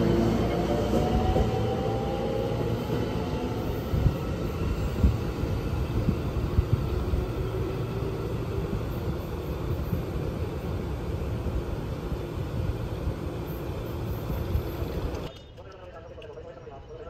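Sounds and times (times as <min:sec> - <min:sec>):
train rolling rumble: 0:00.0 - 0:16.5.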